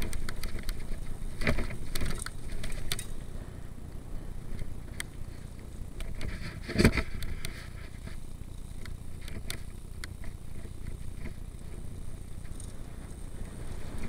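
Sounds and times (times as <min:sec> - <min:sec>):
bike clicks and rattles: 0:00.0 - 0:03.5, 0:04.4 - 0:14.0
bike tyres rumbling on dirt: 0:00.0 - 0:14.0.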